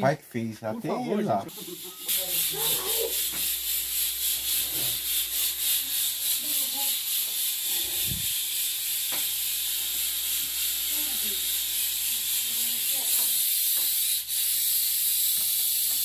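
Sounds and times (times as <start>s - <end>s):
pork sizzling: 1.4s - 16.0s.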